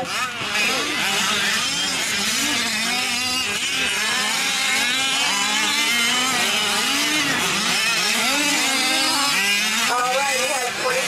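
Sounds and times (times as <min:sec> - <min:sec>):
rc truck engines revving: 0:00.0 - 0:11.0.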